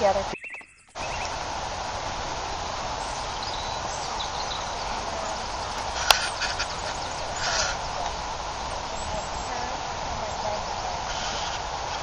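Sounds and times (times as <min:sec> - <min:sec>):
faint bird chirps: 0:00.0 - 0:12.0
steady outdoor hiss: 0:00.0 - 0:12.0.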